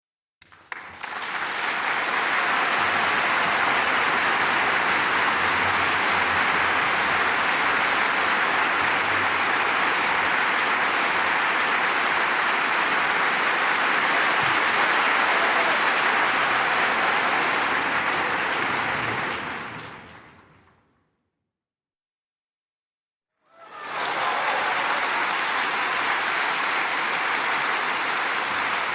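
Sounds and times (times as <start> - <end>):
crowd applauding: 0.4 - 20.7, 23.5 - 28.9.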